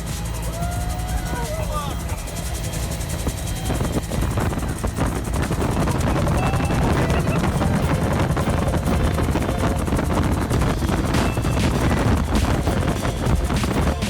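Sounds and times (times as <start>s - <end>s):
helicopter rotor beating: 0.0s - 14.0s
turbine engine running: 0.0s - 14.0s.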